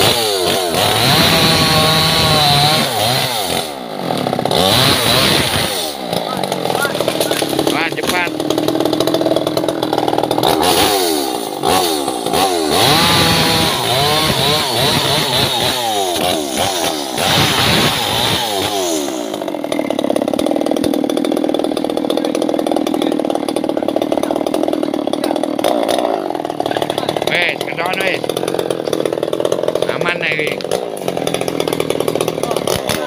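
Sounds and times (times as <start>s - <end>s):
chainsaw revving and idling: 0.0s - 33.0s.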